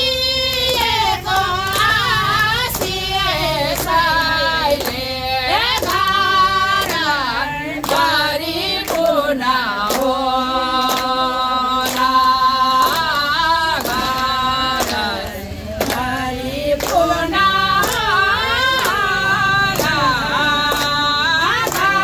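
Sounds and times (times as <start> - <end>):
women singing together: 0.0 - 22.0
hands clapping: 0.2 - 22.0.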